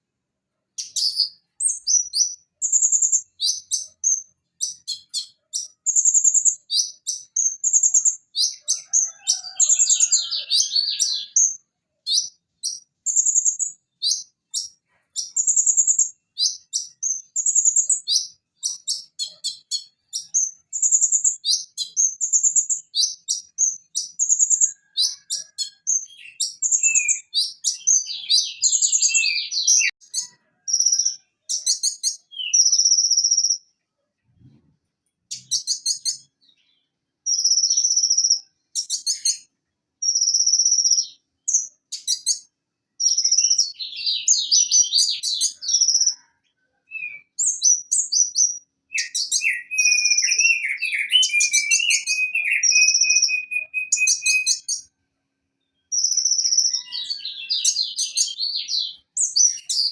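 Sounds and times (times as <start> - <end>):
bird chirping and trilling: 0.8 - 33.7, 35.3 - 54.9, 55.8 - 59.9.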